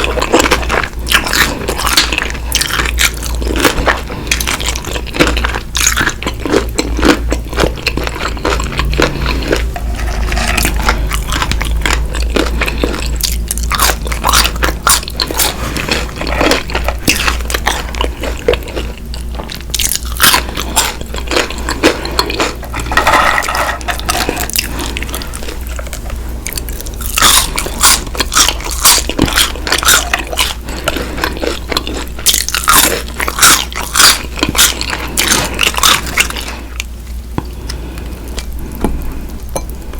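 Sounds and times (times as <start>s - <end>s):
wet chewing: 0.0s - 39.8s.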